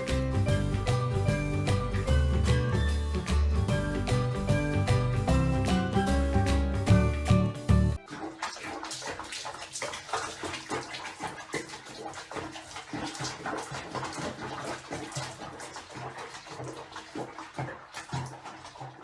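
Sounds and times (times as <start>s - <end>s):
water splashing in a tub: 0.0s - 19.0s.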